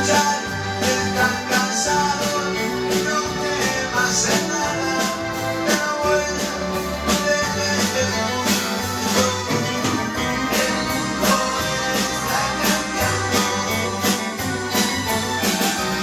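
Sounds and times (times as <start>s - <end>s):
drum kit steady beat: 0.0s - 16.0s
guitar: 0.0s - 16.0s.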